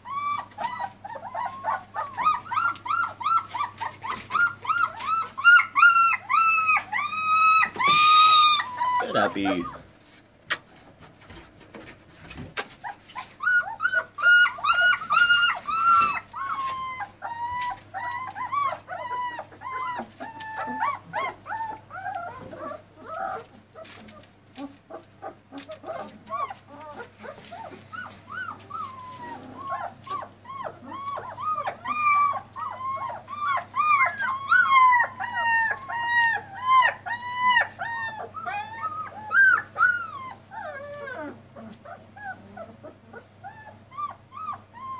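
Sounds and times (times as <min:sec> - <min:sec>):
puppies whining and crying: 0:00.0 - 0:10.2, 0:10.8 - 0:44.9.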